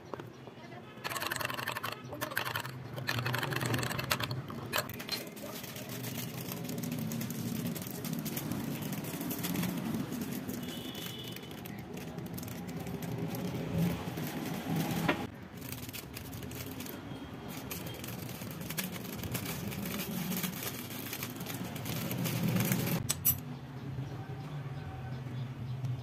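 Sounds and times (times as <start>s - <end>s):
plastic wrapper crinkling: 1.0s - 23.0s.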